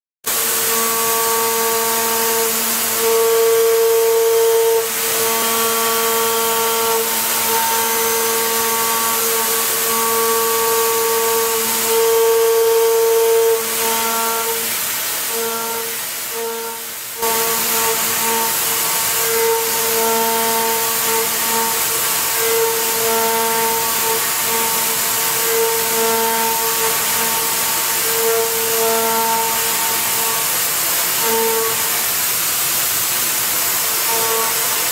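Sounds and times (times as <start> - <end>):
milling machine whine: 0.3 - 34.9.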